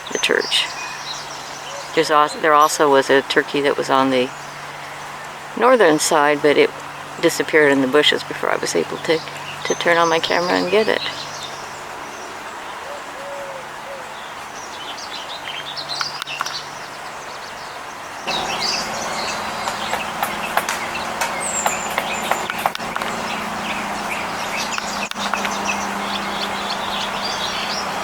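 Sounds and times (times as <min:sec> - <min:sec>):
outdoor background hiss: 0:00.0 - 0:28.0
small birds chirping: 0:00.0 - 0:28.0.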